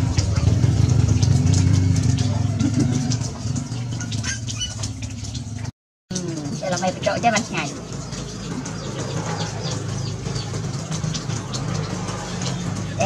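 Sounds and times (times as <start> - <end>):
engine humming: 0.0 - 13.0
birds chirping: 2.1 - 13.0.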